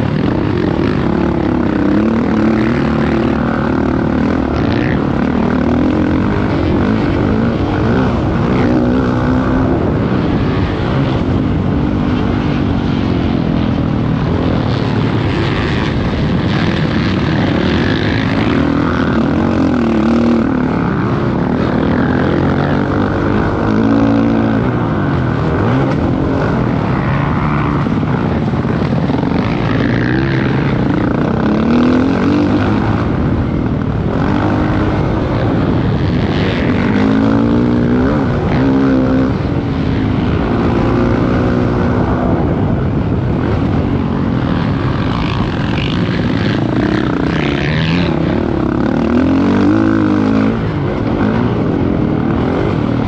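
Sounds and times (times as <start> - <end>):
dirt bike engine revving: 0.0 - 53.0
wind on microphone: 0.0 - 53.0.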